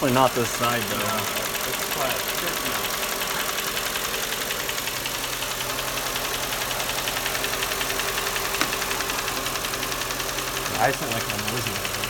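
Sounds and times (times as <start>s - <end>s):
car engine idling: 0.0s - 12.0s
fast light engine tapping: 0.0s - 12.0s.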